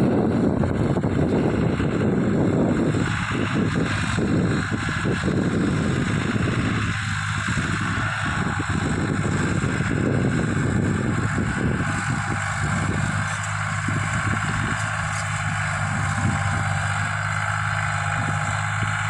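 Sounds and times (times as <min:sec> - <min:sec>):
tractor diesel engine running: 0:00.0 - 0:19.0
wind buffeting microphone: 0:00.0 - 0:19.0.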